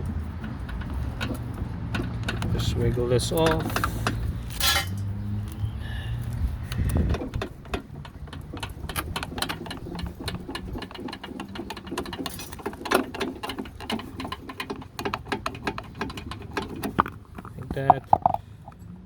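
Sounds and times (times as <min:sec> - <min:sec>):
wheel clicking and rattling: 0:00.0 - 0:05.6, 0:06.2 - 0:19.0.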